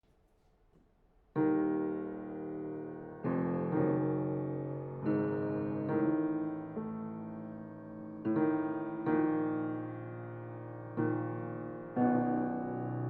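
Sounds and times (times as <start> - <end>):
piano playing slow chords: 1.4 - 13.0.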